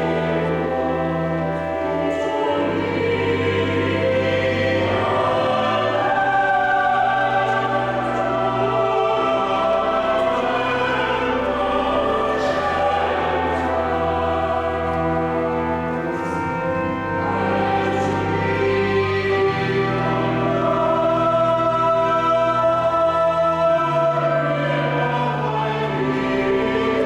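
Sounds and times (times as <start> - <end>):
choir singing a hymn: 0.0 - 27.0
low organ notes: 0.0 - 27.0.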